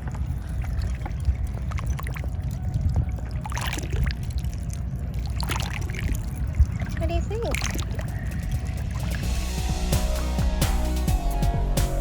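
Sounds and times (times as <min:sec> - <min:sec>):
water splashing and trickling: 0:00.0 - 0:11.0
steady low rumble: 0:00.0 - 0:12.0.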